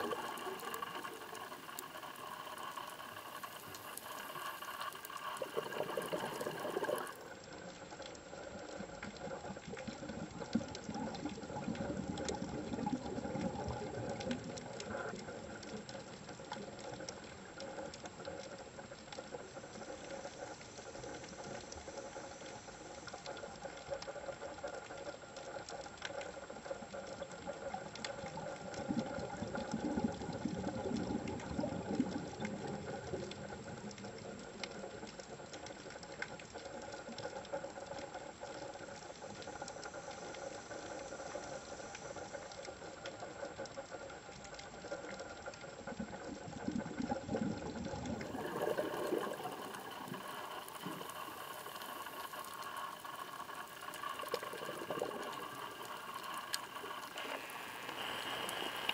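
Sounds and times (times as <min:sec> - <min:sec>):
bubbling: 0:00.0 - 0:20.2, 0:26.7 - 0:41.7, 0:42.5 - 0:58.9
faint clicks: 0:00.0 - 0:58.9
underwater hum: 0:00.0 - 0:58.9.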